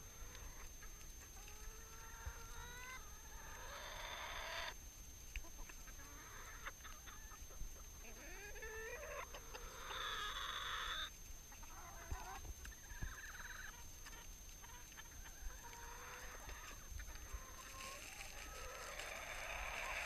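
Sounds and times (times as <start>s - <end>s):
harsh hen calls: 0.0s - 4.8s, 5.8s - 20.0s
hens clucking: 0.0s - 20.0s.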